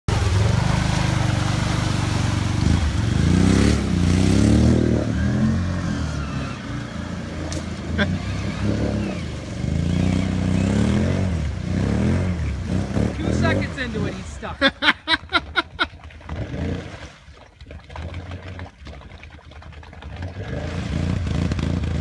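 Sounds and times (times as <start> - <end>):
atv engine revving: 0.1 - 17.1, 20.2 - 22.0.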